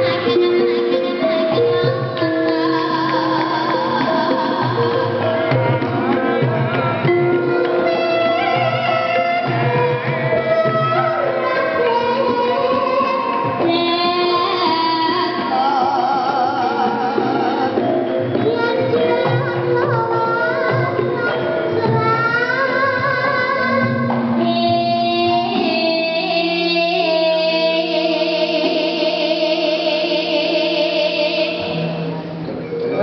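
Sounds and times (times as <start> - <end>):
woman singing: 0.0 - 6.2, 7.1 - 33.0
gamelan ensemble playing: 0.0 - 33.0.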